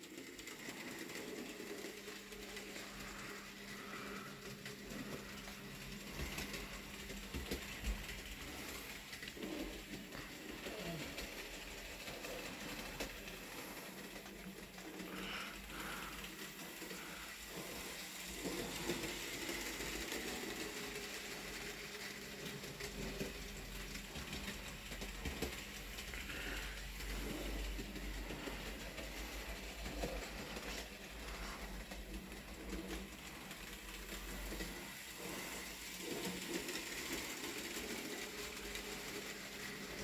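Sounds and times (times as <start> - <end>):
model train motor whirring: 0.0 - 40.0.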